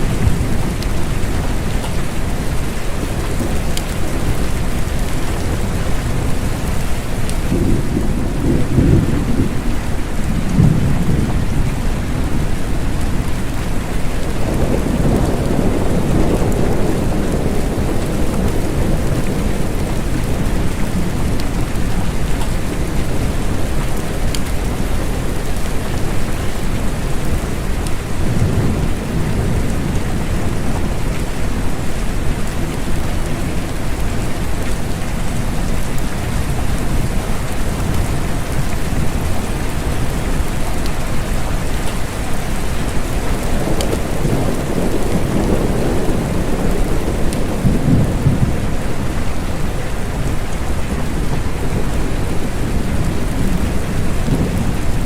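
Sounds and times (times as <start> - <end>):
low rolls of thunder: 0.0 - 26.3, 27.3 - 34.6, 35.2 - 55.0
steady rain falling: 0.0 - 55.0.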